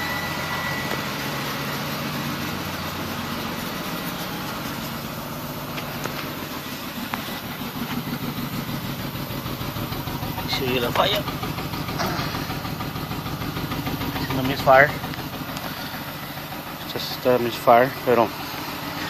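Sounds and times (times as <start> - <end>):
car engine idling roughly: 0.0 - 19.0.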